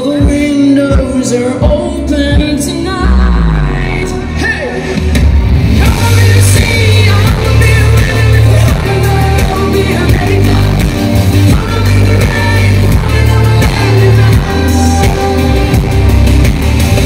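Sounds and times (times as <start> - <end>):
loud live pop music: 0.0 - 17.0.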